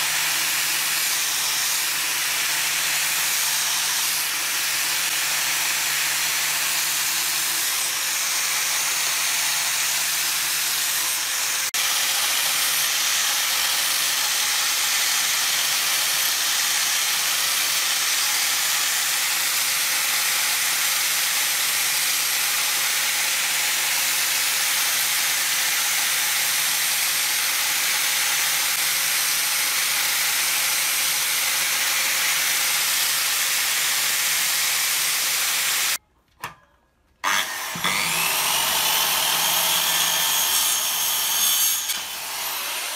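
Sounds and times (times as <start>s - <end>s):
angle grinder sanding wood: 0.0s - 36.0s, 37.2s - 42.9s.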